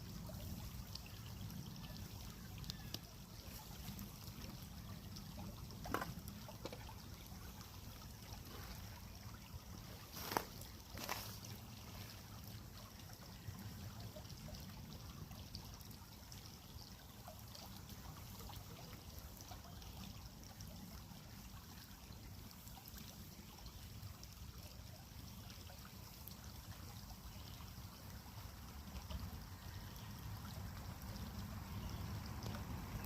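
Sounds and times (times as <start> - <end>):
creek water trickling: 0.0 - 33.0.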